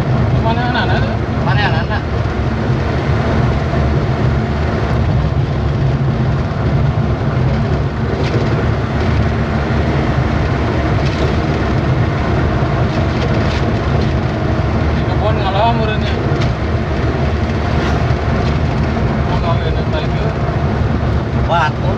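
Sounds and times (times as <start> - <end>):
road and tyre noise: 0.0 - 21.9
truck engine running: 0.0 - 21.9.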